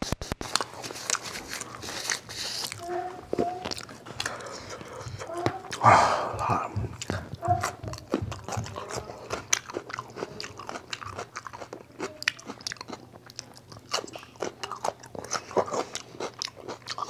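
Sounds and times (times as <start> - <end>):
person chewing crisp cucumber: 0.4 - 17.0.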